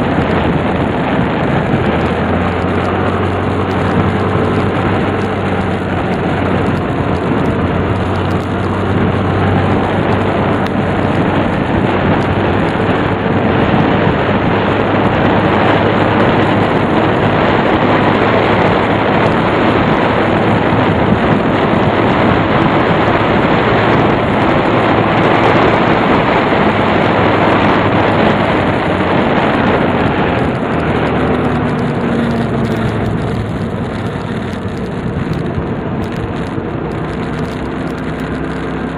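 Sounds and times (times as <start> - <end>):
engine hum: 0.0 - 38.9
wind rush on microphone: 0.0 - 38.9.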